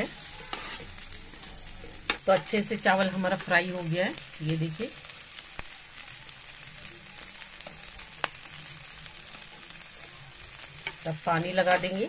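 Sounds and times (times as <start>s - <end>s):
rice sizzling in a pot: 0.0s - 12.0s.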